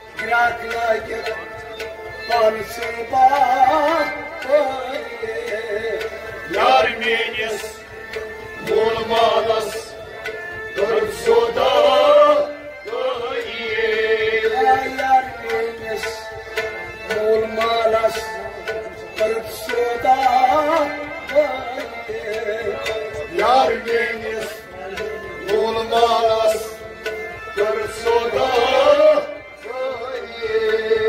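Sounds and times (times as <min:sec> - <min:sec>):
man singing: 0:00.0 - 0:07.9, 0:08.6 - 0:10.0, 0:10.7 - 0:31.0
hand drums: 0:00.0 - 0:31.0
harmonium drone: 0:00.0 - 0:31.0.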